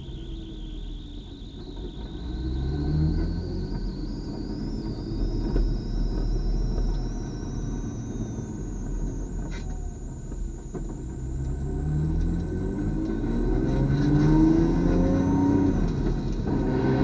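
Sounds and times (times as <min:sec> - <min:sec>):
high whine: 0:00.0 - 0:17.0
race car engine rumble: 0:00.0 - 0:17.0.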